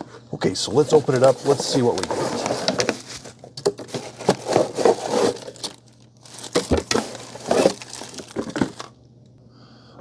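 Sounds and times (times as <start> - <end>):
packaging crinkling and tearing: 0.7 - 9.0.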